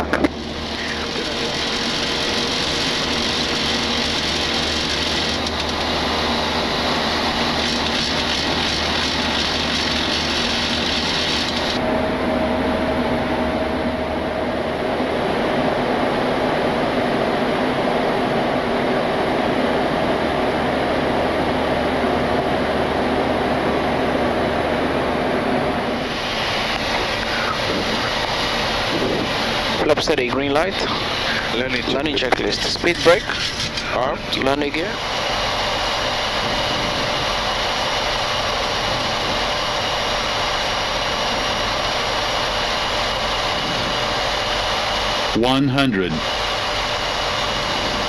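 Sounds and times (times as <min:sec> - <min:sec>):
jet airliner in-flight noise: 0:00.0 - 0:48.0.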